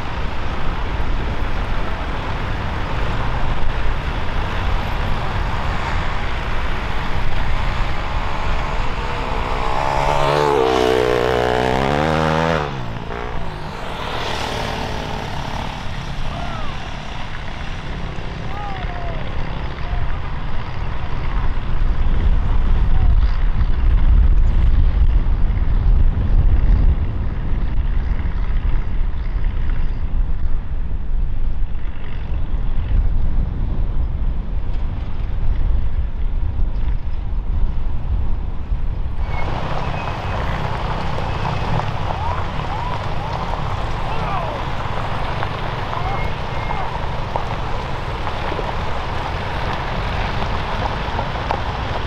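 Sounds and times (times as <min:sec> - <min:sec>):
off-road vehicle engines: 0:00.0 - 0:52.0
wind buffeting microphone: 0:00.0 - 0:52.0.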